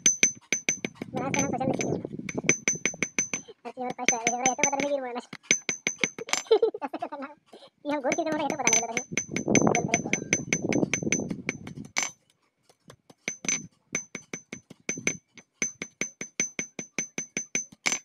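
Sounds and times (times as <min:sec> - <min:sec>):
steel wire tapping on steel: 0:00.0 - 0:06.5, 0:08.0 - 0:18.0.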